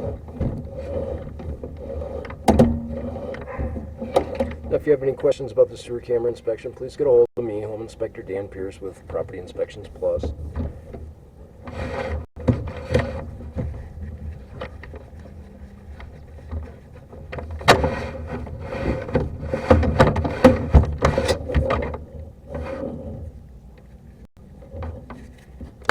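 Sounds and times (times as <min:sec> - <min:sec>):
equipment knocking and scraping: 0:00.0 - 0:05.3, 0:08.9 - 0:25.9.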